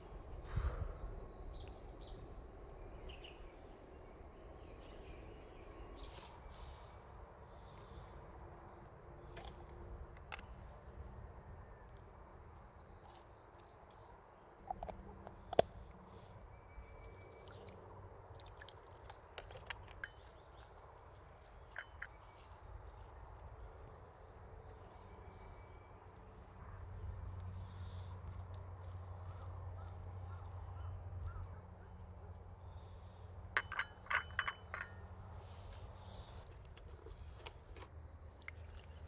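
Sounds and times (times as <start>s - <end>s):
faint forest ambience: 0.0s - 39.0s.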